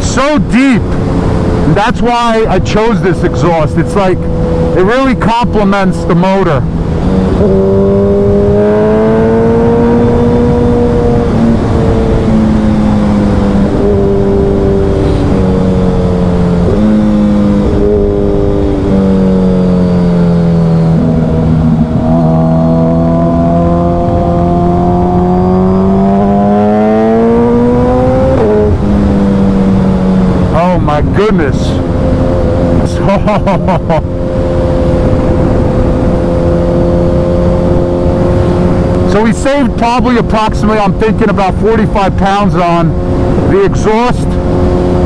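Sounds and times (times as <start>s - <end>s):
motorcycle engine at highway speed: 0.0s - 45.0s.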